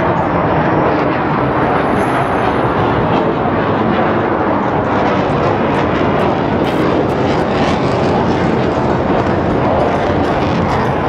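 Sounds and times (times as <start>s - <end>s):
turboprop aircraft flying overhead: 0.0s - 11.0s.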